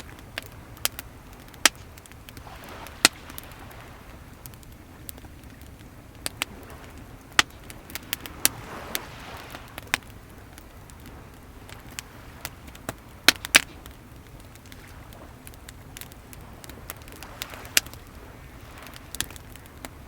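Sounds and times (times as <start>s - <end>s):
bonfire crackling and popping: 0.0s - 20.0s
waves washing: 0.0s - 20.0s.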